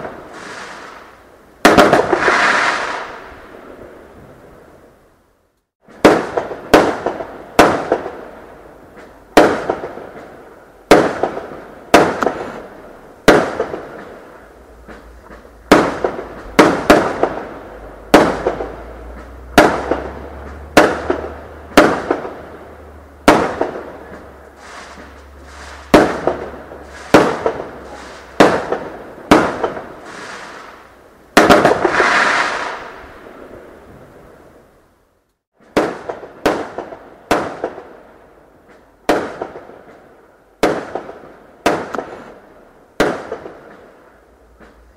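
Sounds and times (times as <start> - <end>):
fireworks bangs: 0.0 - 4.6, 5.8 - 34.3, 35.6 - 40.0, 40.6 - 44.9.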